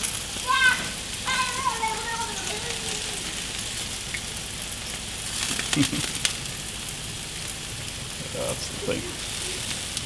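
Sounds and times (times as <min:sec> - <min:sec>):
meat sizzling on grill: 0:00.0 - 0:10.0.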